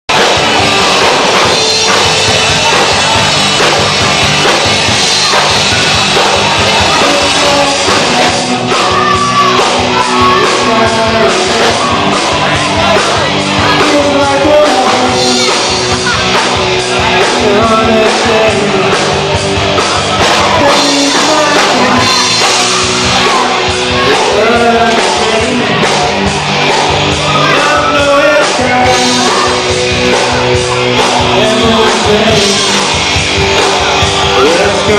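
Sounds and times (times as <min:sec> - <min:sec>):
person singing: 0:00.1 - 0:34.9
rock song with drums and guitar: 0:00.1 - 0:34.9.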